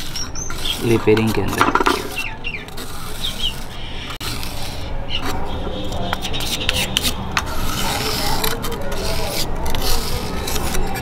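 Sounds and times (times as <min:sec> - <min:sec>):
spreader scraping paste on metal: 0:00.0 - 0:05.4, 0:06.1 - 0:11.0.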